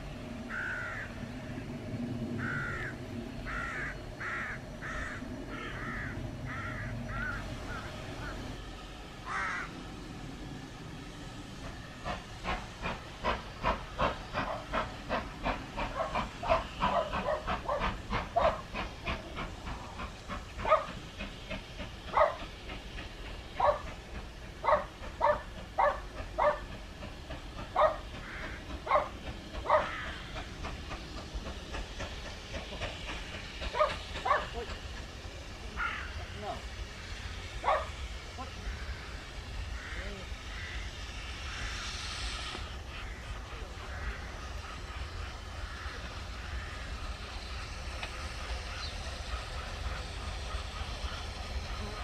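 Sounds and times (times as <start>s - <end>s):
steam locomotive chuffing: 0.0s - 52.0s.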